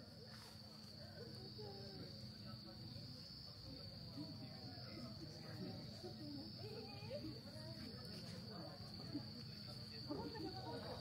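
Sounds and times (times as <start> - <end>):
crickets trilling: 0.0 - 11.0
faint murmur of distant voices: 0.0 - 11.0.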